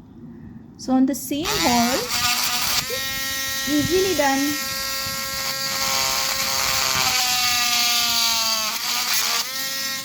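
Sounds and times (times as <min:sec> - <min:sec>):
rotary tool whining: 0:01.4 - 0:10.0.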